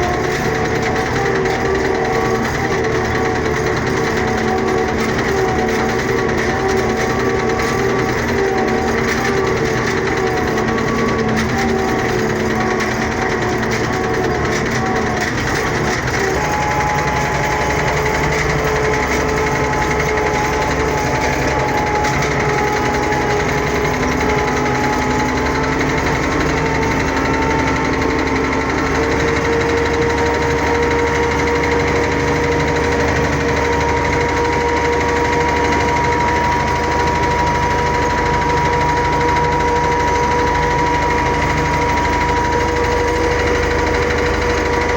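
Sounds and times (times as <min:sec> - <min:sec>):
engine running under load: 0:00.0 - 0:44.9.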